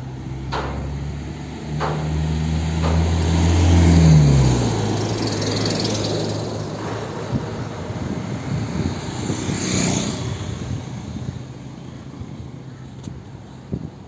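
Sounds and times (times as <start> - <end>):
passing vehicle engine hum: 0.0 - 14.0
traffic noise: 0.0 - 14.0.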